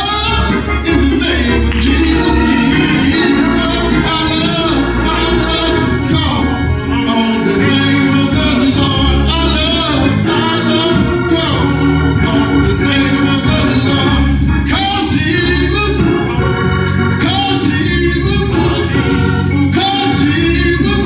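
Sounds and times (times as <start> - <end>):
man singing into a microphone: 0.0 - 16.5, 17.2 - 21.0
organ chords: 0.0 - 21.0.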